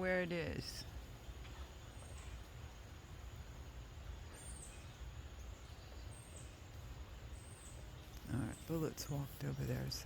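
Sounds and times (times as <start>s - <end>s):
birds calling high notes: 0.0s - 10.0s
low rumble of wind: 0.0s - 10.0s.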